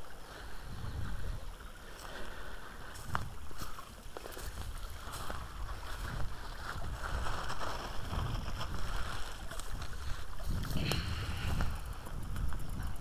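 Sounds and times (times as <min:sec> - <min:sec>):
wind rumble on microphone: 0:00.0 - 0:02.1, 0:02.8 - 0:13.0
footsteps rustling through undergrowth: 0:00.9 - 0:12.4.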